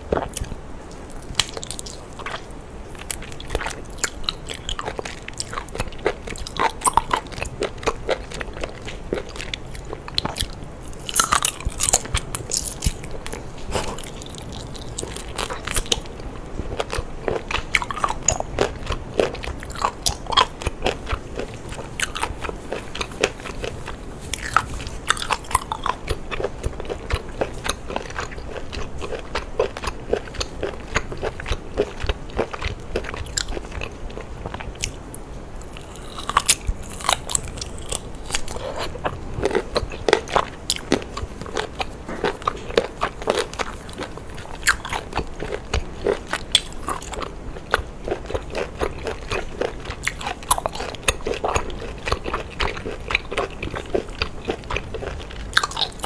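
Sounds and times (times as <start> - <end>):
chewing clicks: 1.2 - 35.0, 35.6 - 56.0.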